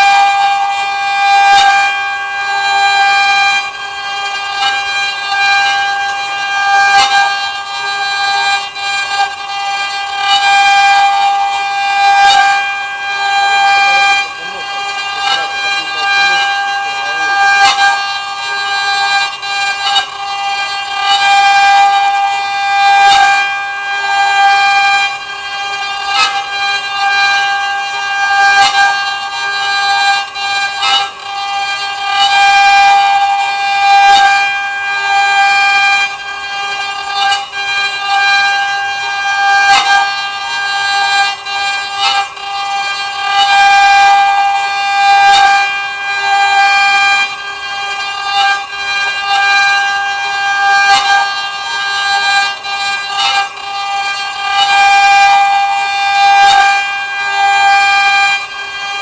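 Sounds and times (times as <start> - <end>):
router spindle whining: 0.0 - 59.0.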